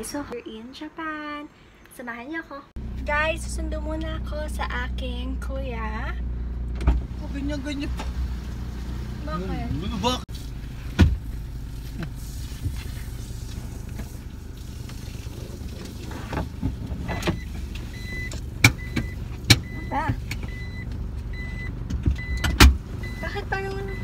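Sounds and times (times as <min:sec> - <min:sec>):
car engine idling: 0:02.8 - 0:24.0.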